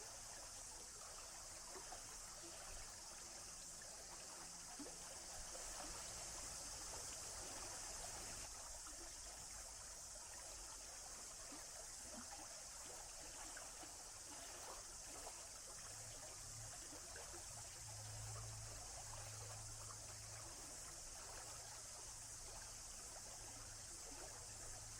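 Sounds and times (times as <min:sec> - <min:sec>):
stream trickling: 0:00.0 - 0:24.9.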